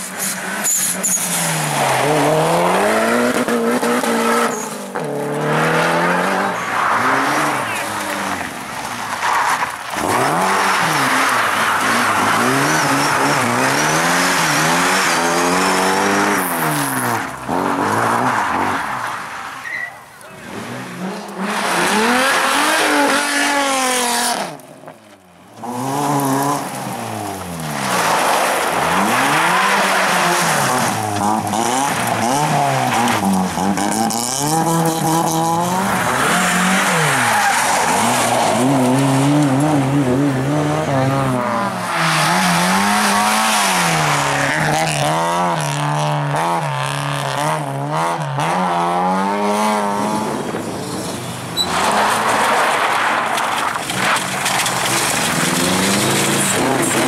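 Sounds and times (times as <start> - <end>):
rally car engines revving: 0.0 - 57.0
tyres skidding on gravel: 0.0 - 57.0.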